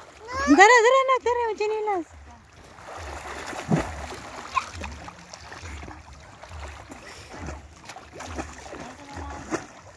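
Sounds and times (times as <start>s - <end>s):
water splashing and sloshing: 0.0s - 9.9s.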